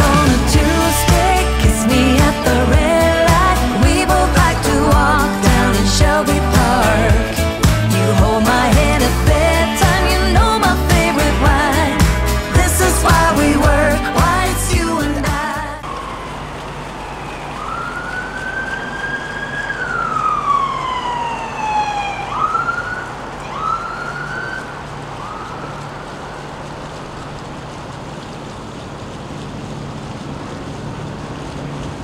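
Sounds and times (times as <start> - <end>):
emergency siren wailing: 0.0 - 14.1, 15.8 - 28.1
low hum: 0.0 - 32.0
noisy background: 0.0 - 32.0.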